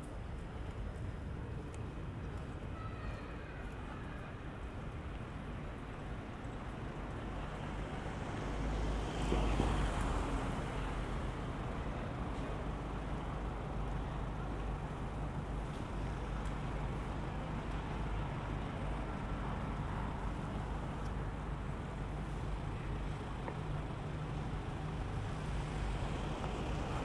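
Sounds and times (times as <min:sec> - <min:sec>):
traffic engine rumble: 0:00.0 - 0:27.0.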